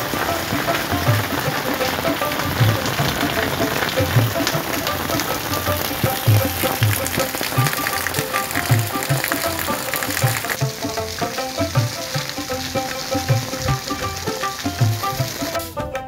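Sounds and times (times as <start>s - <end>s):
heavy rain falling: 0.0s - 15.8s.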